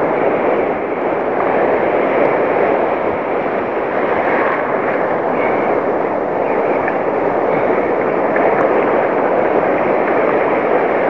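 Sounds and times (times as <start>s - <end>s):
surf waves breaking: 0.0s - 11.0s.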